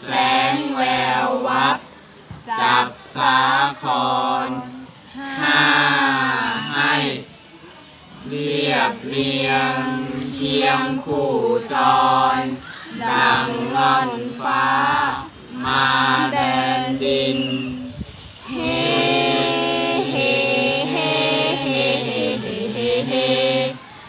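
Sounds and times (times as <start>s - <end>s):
group chanting in unison: 0.0s - 7.4s, 8.1s - 24.0s.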